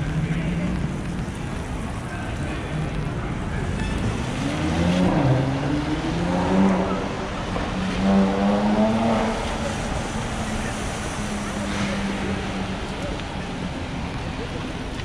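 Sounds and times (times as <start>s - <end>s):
passers-by talking: 0.0s - 15.0s
traffic hiss on wet street: 0.0s - 15.0s.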